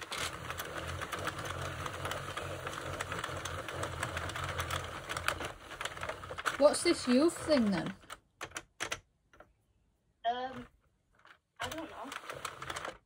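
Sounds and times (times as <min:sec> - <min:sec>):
knitting machine needles clattering: 0:00.0 - 0:09.4, 0:10.5 - 0:13.0.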